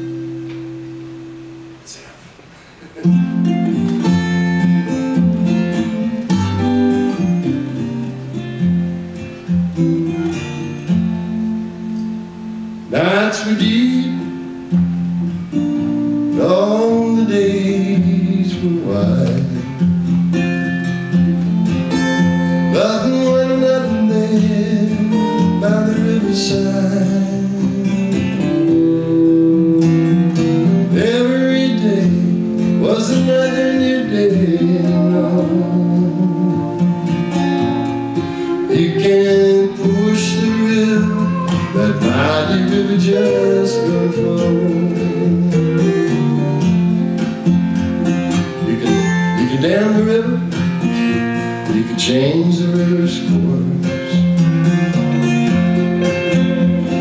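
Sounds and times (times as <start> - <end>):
acoustic guitar strumming chords: 0.0 - 57.0
steel guitar sliding notes: 2.8 - 57.0.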